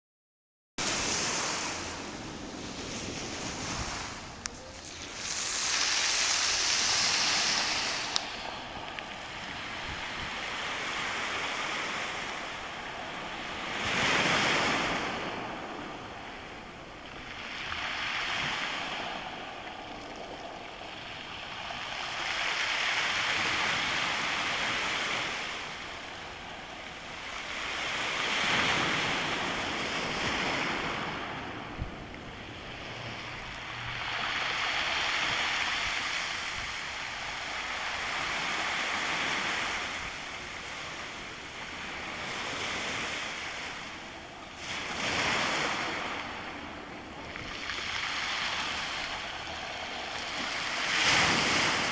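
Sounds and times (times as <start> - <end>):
waves surging over stony beach: 0.8 - 51.9.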